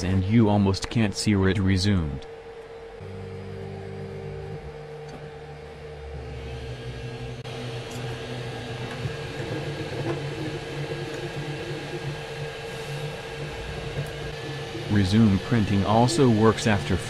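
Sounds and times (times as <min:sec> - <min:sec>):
fan hum: 0:00.0 - 0:17.0
stepper motors whining: 0:00.0 - 0:17.0.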